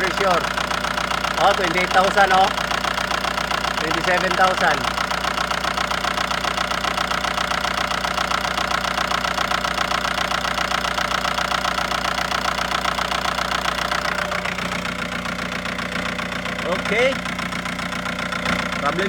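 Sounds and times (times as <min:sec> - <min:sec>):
diesel engine idling with knock: 0:00.0 - 0:19.0.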